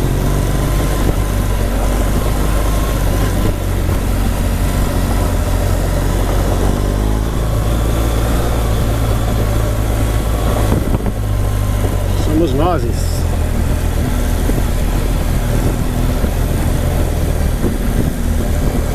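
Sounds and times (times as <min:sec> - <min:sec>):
motorcycle engine running: 0:00.0 - 0:18.9
wind rushing over microphone: 0:00.0 - 0:18.9.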